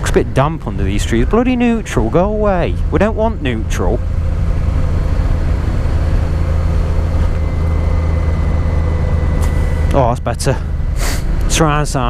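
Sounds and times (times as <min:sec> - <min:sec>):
motorcycle engine running: 0:00.0 - 0:12.0
rushing wind noise: 0:00.0 - 0:12.0.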